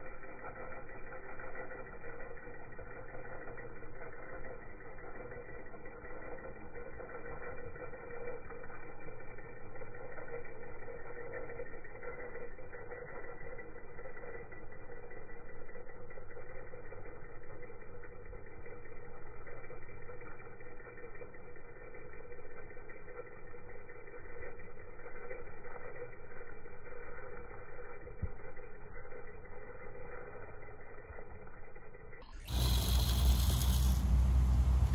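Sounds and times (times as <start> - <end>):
electric motor and gears whining: 0.0 - 34.9.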